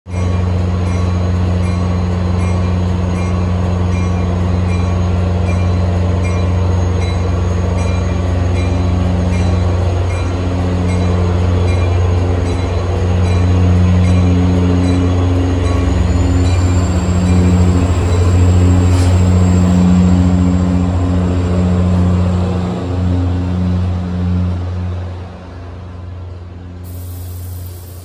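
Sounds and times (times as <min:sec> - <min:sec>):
diesel locomotive engine droning: 0:00.1 - 0:28.0.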